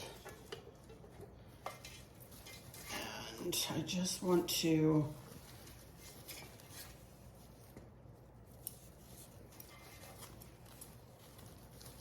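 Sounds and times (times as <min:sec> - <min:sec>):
ribbon rustling: 0:00.0 - 0:12.0.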